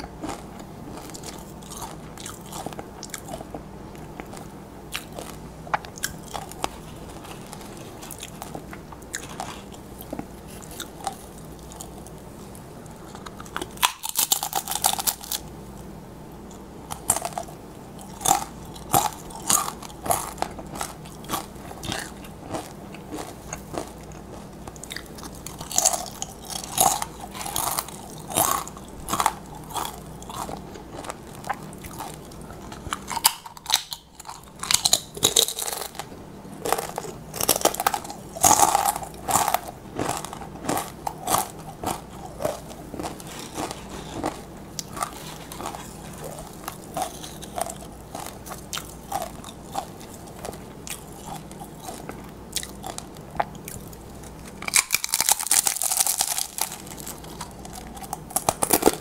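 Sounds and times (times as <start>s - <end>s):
crunching bites of chips: 0.0s - 15.5s, 16.5s - 59.0s
crunching chews: 0.0s - 15.5s, 16.5s - 59.0s.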